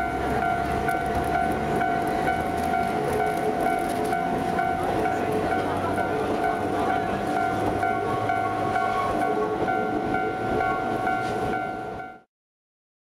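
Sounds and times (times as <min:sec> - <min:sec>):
electric train rumble: 0:00.0 - 0:12.2
constant ringing tone: 0:00.0 - 0:12.3.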